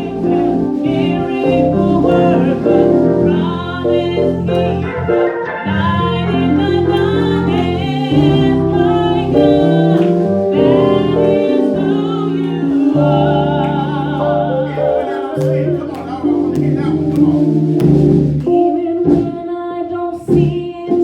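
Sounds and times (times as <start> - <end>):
held bass notes: 0.0 - 19.4, 20.3 - 20.7
gospel singing: 0.0 - 21.0.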